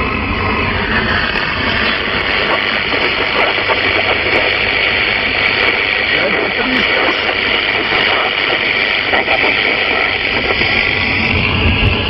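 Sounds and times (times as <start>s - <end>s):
radio static hiss: 1.4s - 12.0s.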